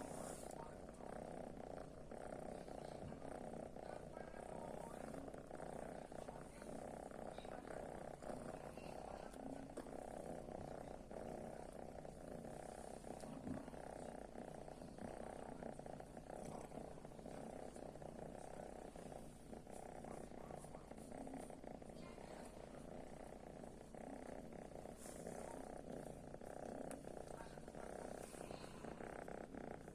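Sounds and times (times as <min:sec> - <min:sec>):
kitten purring: 0:00.0 - 0:29.9.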